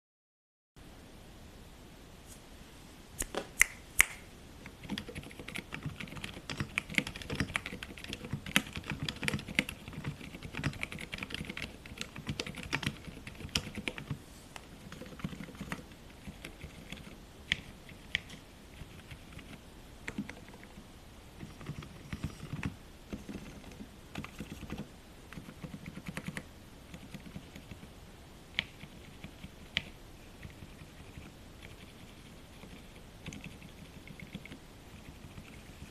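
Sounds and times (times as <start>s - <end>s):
typing on mechanical keyboard: 4.6s - 14.2s, 14.8s - 20.8s, 21.4s - 27.8s, 28.6s - 35.9s.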